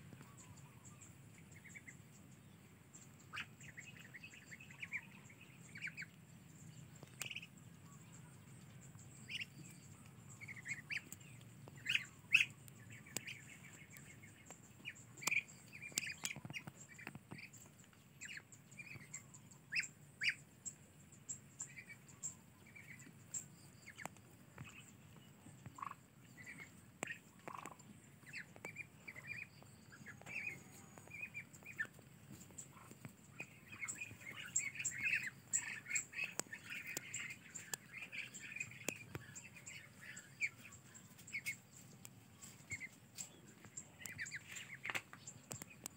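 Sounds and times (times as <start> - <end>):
ducklings peeping and squawking: 0.0 - 45.9.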